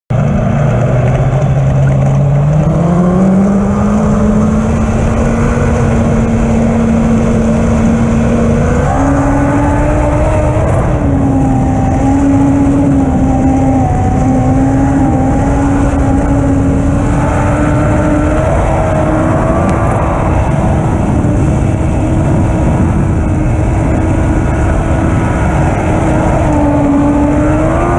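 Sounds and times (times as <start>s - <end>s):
race car engine running hard: 0.1s - 27.9s.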